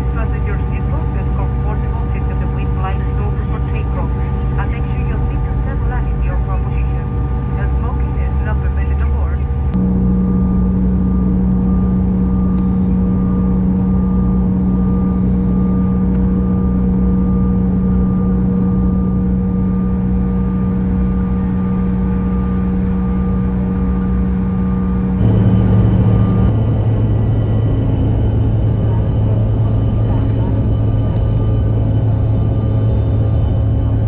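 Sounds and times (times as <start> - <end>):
high whine: 0.0 - 34.0
jet engines humming in cabin: 0.0 - 34.0.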